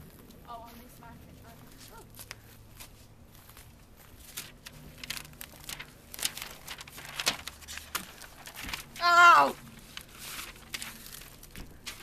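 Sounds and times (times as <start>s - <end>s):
paper crinkling: 1.4s - 12.0s.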